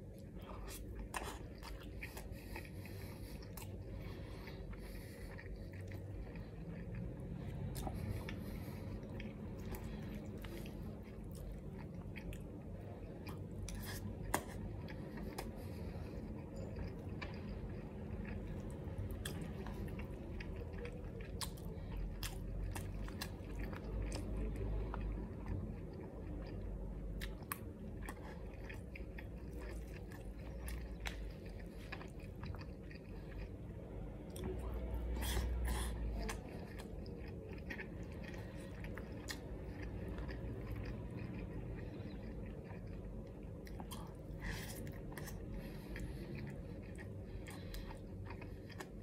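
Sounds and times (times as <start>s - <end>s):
wet chewing with clicks and smacks: 0.0s - 49.0s.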